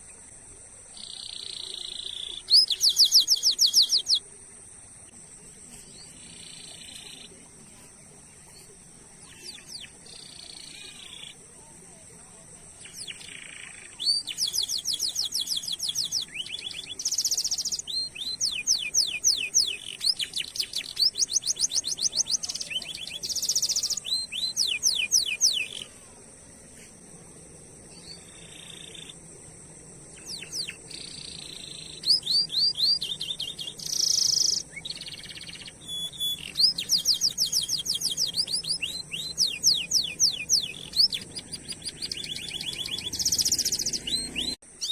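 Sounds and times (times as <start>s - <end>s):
canary singing trills: 1.0s - 4.3s, 5.9s - 7.4s, 8.4s - 11.4s, 12.6s - 26.0s, 27.9s - 29.2s, 30.1s - 44.9s.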